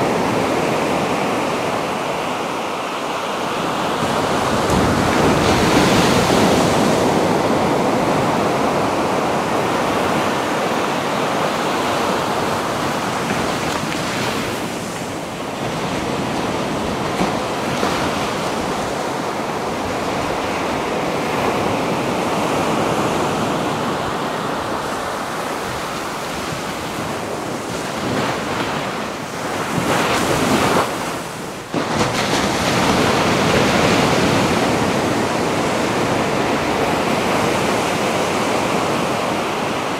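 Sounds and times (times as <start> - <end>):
ocean surf washing ashore: 0.0 - 39.9.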